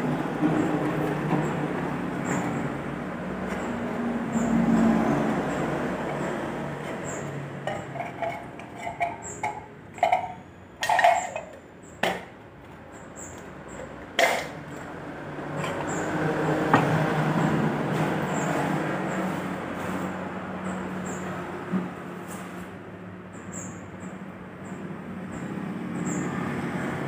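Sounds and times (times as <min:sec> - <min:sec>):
trucks passing: 0:00.0 - 0:27.0.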